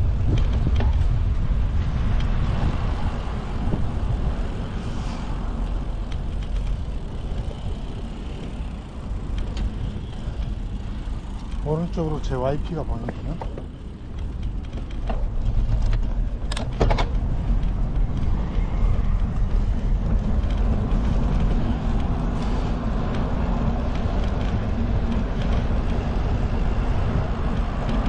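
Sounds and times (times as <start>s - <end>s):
bicycle tyre noise on road: 0.0s - 28.0s
wind rumble on microphone: 0.0s - 28.0s.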